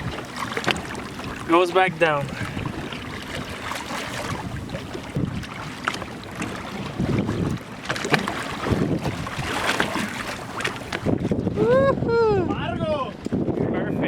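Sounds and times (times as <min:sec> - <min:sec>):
water splashing against boat: 0:00.0 - 0:13.9
wind buffeting microphone: 0:00.0 - 0:14.0.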